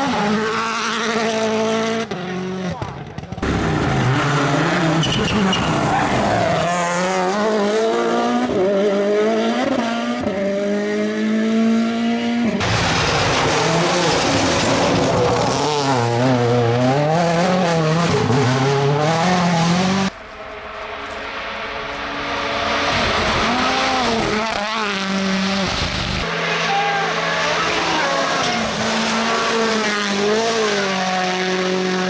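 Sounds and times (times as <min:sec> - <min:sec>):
rally car engines at full throttle: 0:00.0 - 0:32.0.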